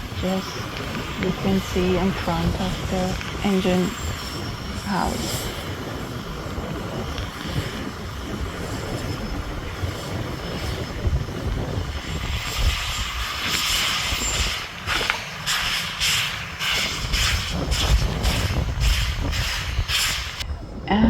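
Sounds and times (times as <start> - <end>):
outdoor noise: 0.0 - 21.0
steam locomotive chuffing: 0.0 - 21.0
steam locomotive rumble: 0.0 - 21.0.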